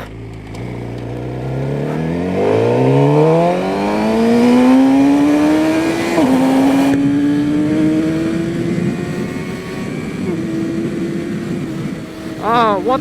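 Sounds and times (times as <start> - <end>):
motorcycle engine accelerating hard: 0.0 - 13.0.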